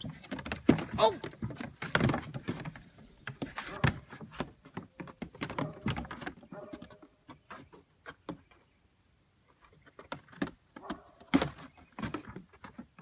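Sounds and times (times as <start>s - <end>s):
hooves tapping on plywood: 0.0s - 8.7s, 9.8s - 13.0s.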